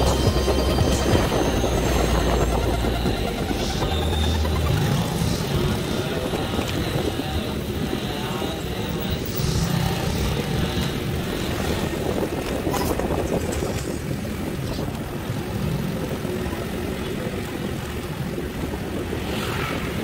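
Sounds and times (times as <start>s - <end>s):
motorcycle engine running: 0.0s - 19.0s
wind and road noise: 0.0s - 20.0s.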